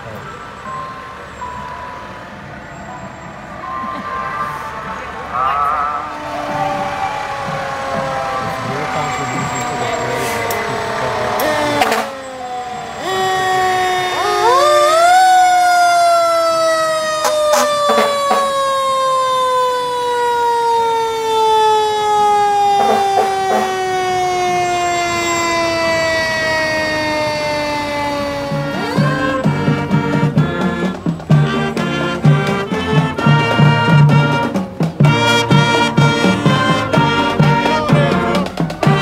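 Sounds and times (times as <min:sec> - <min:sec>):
fire engine siren winding: 0:00.2 - 0:39.0.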